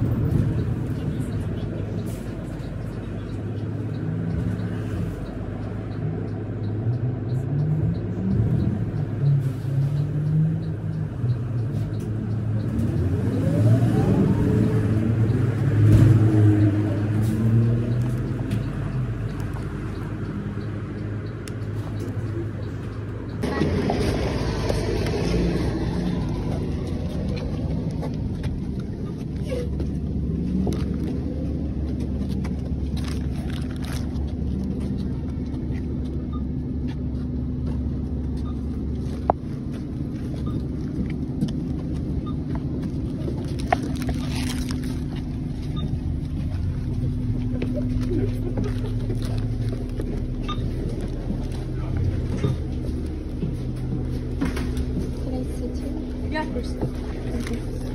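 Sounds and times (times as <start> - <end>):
motor vehicle engine rumbling: 0.0 - 57.9.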